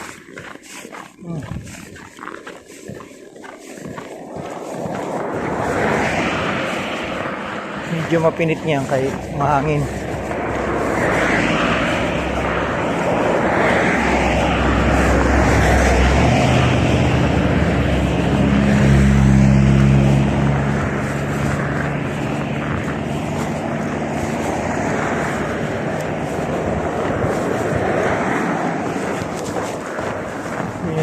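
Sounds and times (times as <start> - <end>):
wind and road noise: 0.0 - 31.0
low engine drone: 3.7 - 31.0.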